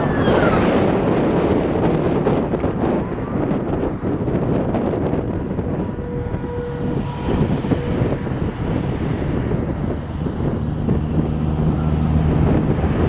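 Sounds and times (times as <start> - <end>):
tyres and motor rumbling: 0.0 - 13.0
wind buffeting car: 0.0 - 13.0.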